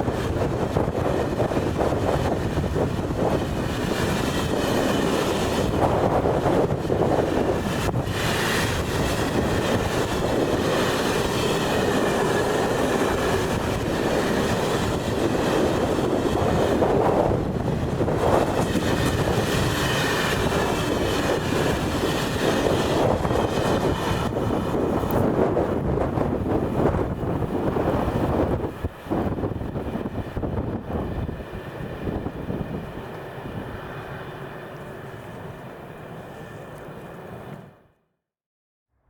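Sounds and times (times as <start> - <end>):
train wheels rumbling on rails: 0.0 - 34.2.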